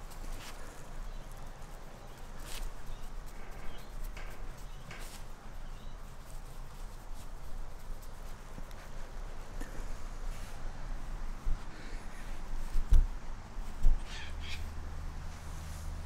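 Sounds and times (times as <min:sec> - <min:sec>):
puppy scuffling in grass: 0:00.0 - 0:16.0.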